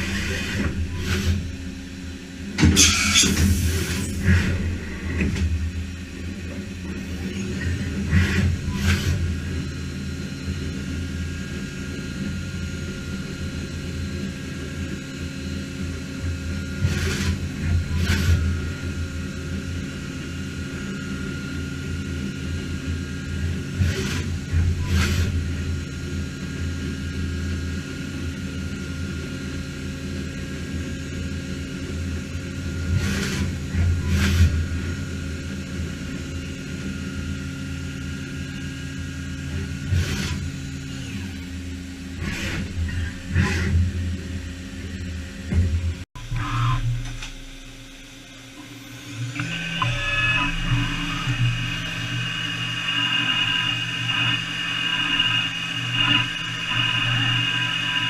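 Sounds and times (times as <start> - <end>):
machine hum with high whine: 0.0 - 58.0.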